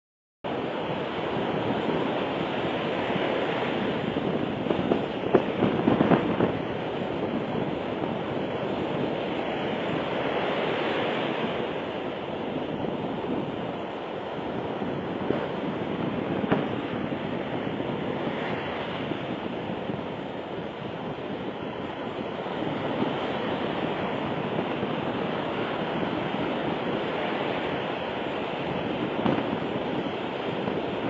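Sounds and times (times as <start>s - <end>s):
sea waves breaking on shore: 0.5s - 31.0s
wind on microphone: 0.5s - 31.0s.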